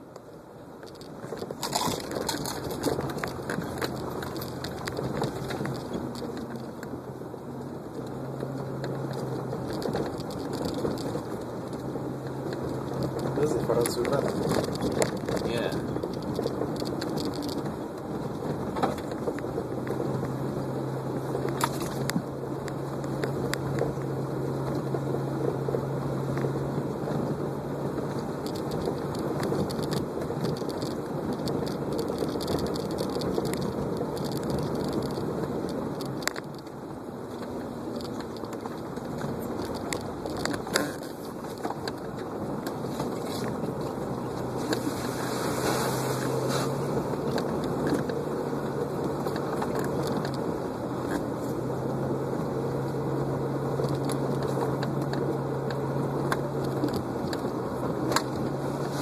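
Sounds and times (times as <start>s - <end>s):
tyre and road noise: 0.0s - 59.0s
vehicle engine hum: 0.0s - 59.0s
vehicle body rattling: 0.8s - 59.0s.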